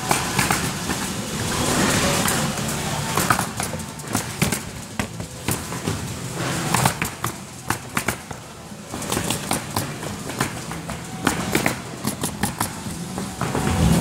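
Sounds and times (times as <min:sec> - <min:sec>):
pneumatic nail guns firing: 0:00.0 - 0:01.2, 0:02.1 - 0:08.4, 0:09.0 - 0:14.0.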